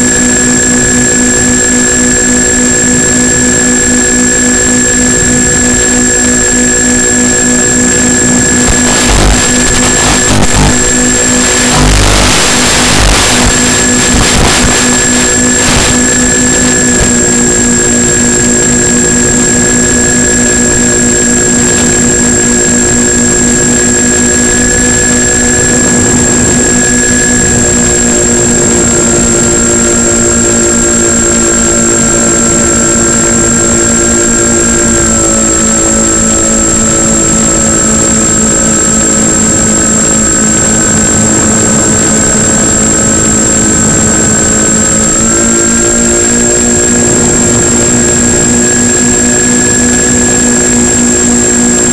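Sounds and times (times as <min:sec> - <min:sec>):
high-pitched whine: 0:00.0 - 0:51.9
model plane motors droning: 0:00.0 - 0:51.9.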